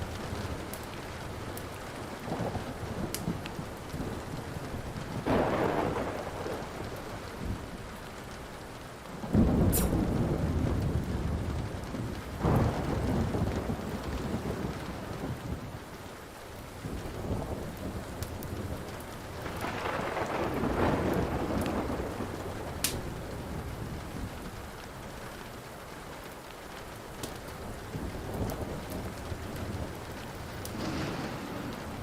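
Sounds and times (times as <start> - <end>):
rolling thunder: 0.0 - 8.0, 9.2 - 16.0, 16.7 - 24.7, 27.5 - 32.0
wood fire crackling pops: 0.0 - 8.6, 9.3 - 24.6, 25.3 - 32.0
steady rain: 0.0 - 32.0.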